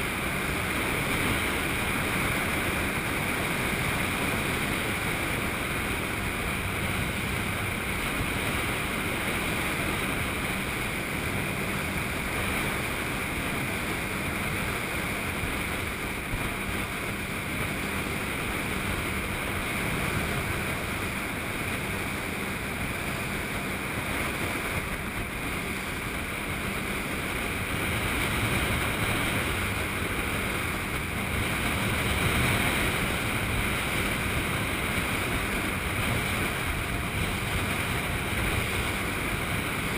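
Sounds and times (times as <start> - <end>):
motorboat engine drone: 0.0 - 39.9
water rushing along hull: 0.0 - 39.9
wind buffeting microphone: 0.0 - 39.9.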